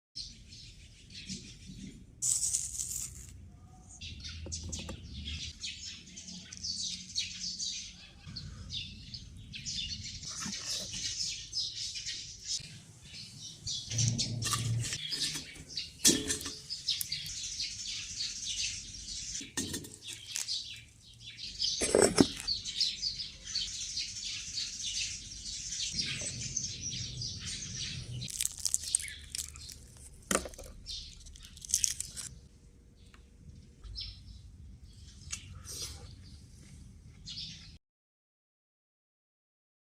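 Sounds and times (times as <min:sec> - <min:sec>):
small birds chirping: 0:00.2 - 0:37.8.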